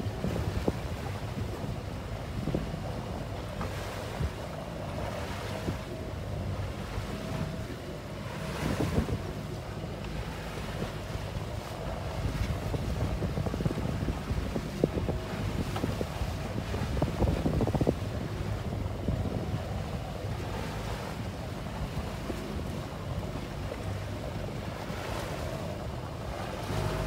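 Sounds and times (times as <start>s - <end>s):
boat engine hum: 0.0s - 27.0s
water slapping against hull: 0.0s - 27.0s
wind buffeting microphone: 0.0s - 27.0s.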